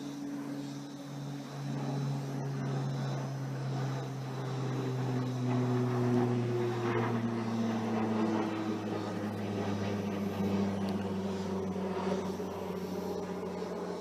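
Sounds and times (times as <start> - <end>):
distant propeller aircraft drone: 0.0 - 14.0.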